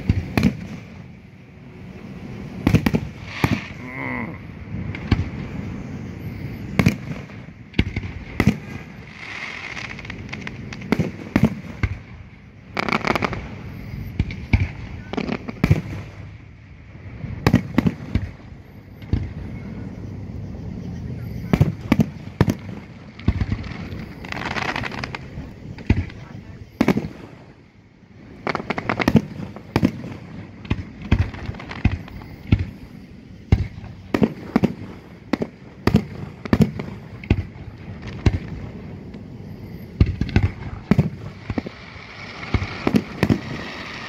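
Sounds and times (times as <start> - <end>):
firework shells exploding: 0.0 - 20.0, 21.2 - 44.0.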